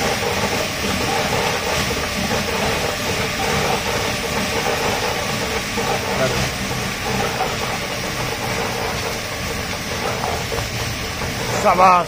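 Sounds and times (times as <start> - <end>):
treadmill belt and roller clattering: 0.0 - 12.0.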